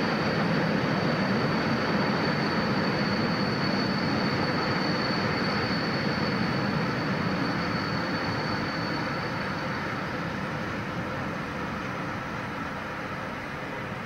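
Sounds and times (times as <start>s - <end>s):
high steady whine: 0.0s - 14.0s
train wheels rumbling on rails: 0.0s - 14.0s.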